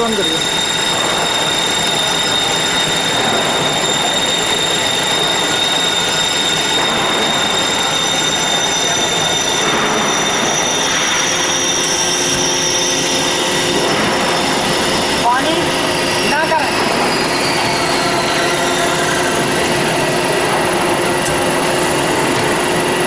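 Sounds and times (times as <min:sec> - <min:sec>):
band saw screeching: 0:00.0 - 0:23.0
higher whine: 0:00.0 - 0:23.0.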